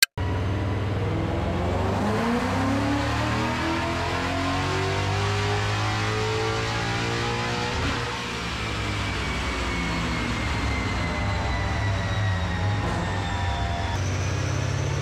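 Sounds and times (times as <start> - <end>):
engine revving under load: 0.2 - 15.0.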